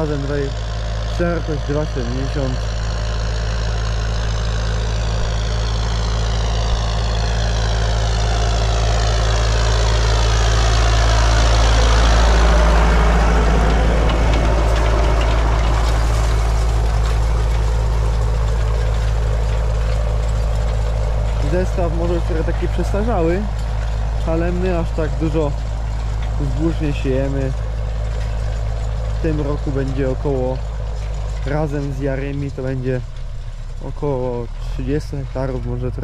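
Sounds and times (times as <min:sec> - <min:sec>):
tractor diesel engine: 0:00.0 - 0:36.0.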